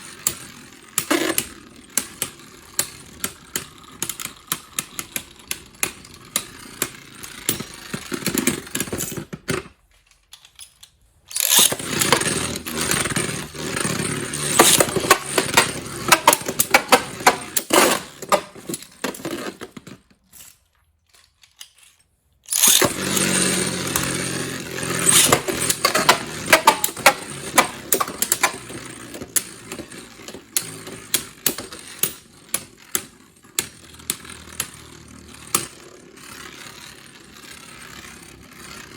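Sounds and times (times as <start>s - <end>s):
spinning tops whirring and clashing: 0.0s - 9.1s, 11.3s - 19.7s, 22.5s - 38.2s.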